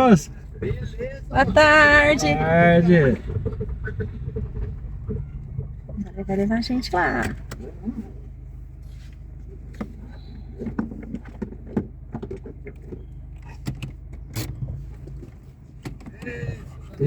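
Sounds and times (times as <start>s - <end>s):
car engine hum inside cabin: 0.0s - 17.0s.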